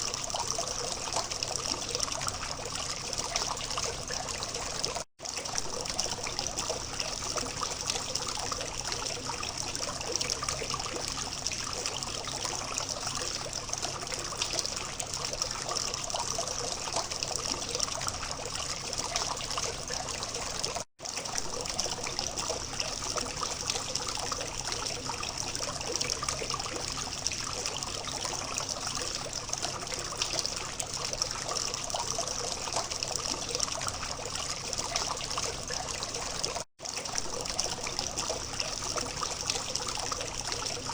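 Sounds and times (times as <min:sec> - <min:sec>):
water fountain trickling: 0:00.0 - 0:40.9.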